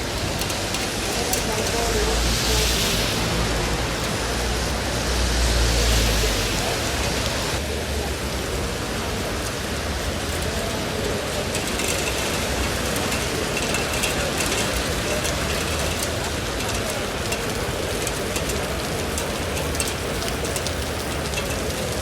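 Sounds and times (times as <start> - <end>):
heavy rain falling: 0.0 - 22.0
sharp raindrop ticks: 0.0 - 22.0.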